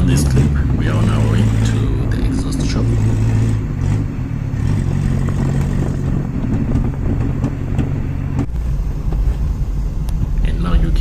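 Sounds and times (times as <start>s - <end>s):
car engine with leaking exhaust: 0.0s - 11.0s.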